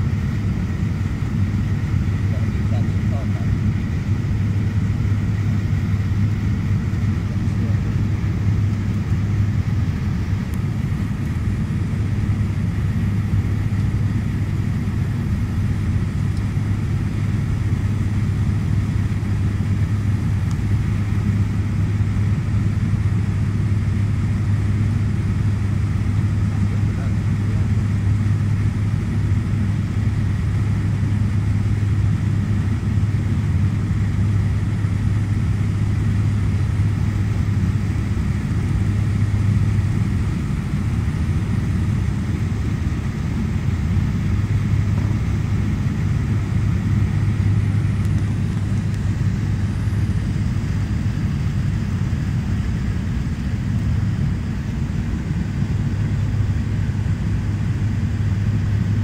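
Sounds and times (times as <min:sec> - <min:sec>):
propeller plane cabin drone: 0:00.0 - 0:59.0
rushing airflow: 0:00.0 - 0:59.0.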